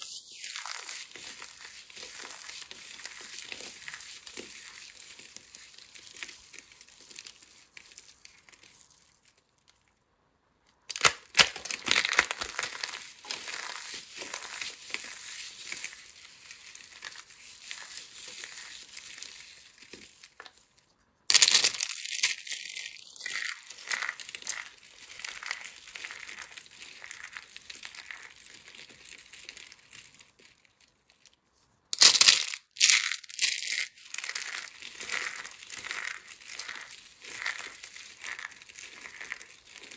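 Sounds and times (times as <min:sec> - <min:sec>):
dry soap crunching: 0:00.0 - 0:09.9, 0:10.9 - 0:31.4, 0:32.0 - 0:39.9.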